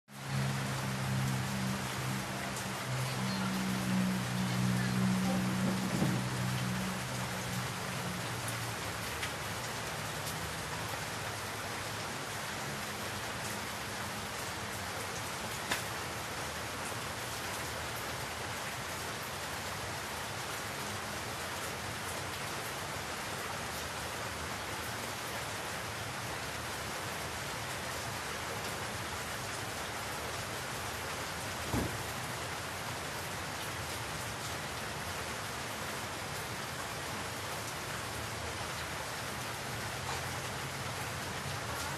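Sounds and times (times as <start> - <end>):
steady rain falling: 0.1 - 41.9.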